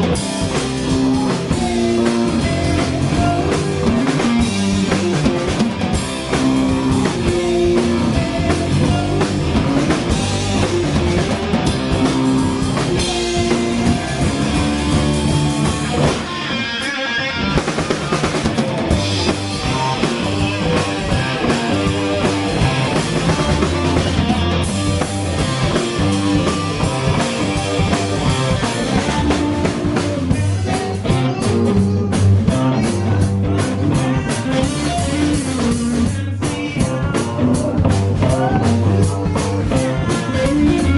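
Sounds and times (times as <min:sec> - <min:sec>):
blues-rock band playing: 0:00.0 - 0:40.9.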